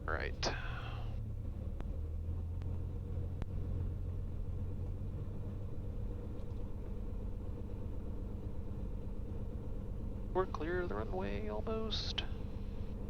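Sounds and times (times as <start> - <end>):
aircraft engine low drone: 0.0 - 13.0.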